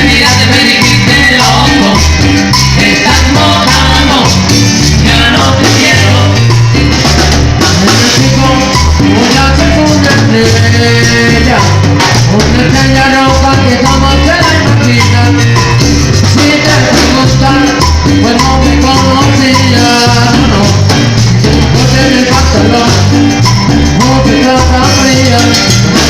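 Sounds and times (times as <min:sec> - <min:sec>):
latin band music: 0:00.0 - 0:26.0.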